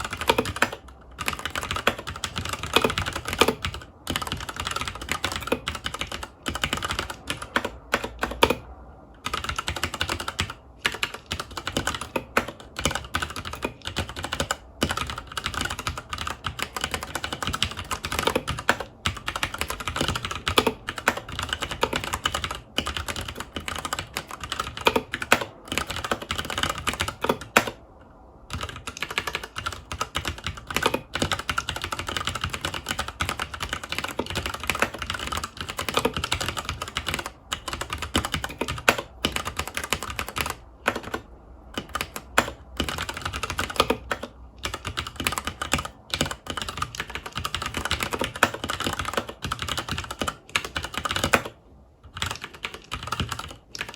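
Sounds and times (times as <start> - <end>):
typing on mechanical keyboard: 0.0 - 53.9.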